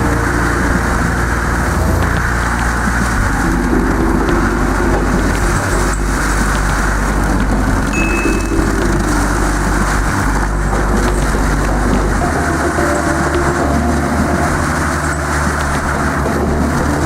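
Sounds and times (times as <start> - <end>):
heavy machinery engine running: 0.0 - 17.0
high mechanical whine: 0.0 - 17.0.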